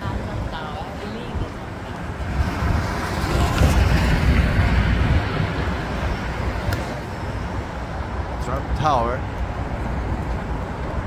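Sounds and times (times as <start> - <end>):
traffic road noise rumble: 0.0 - 11.0.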